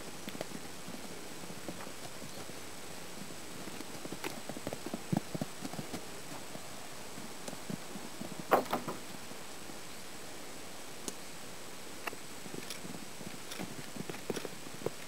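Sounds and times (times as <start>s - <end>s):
hooves thudding on grass: 0.0s - 10.0s, 12.0s - 15.0s.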